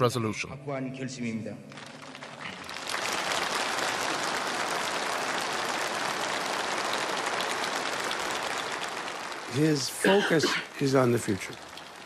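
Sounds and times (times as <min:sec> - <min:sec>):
crowd applauding: 0:01.7 - 0:12.0.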